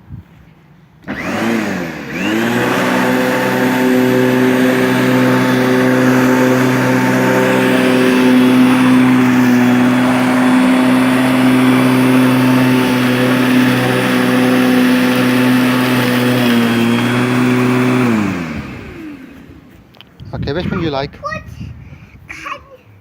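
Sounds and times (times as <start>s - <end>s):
motor spinning down: 1.0s - 19.8s
electric lawnmower motor running: 1.0s - 20.1s.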